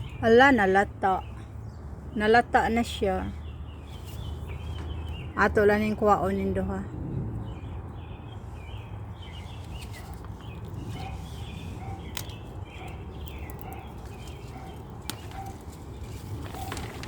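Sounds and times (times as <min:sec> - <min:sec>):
birds chirping faintly: 0:00.0 - 0:17.0.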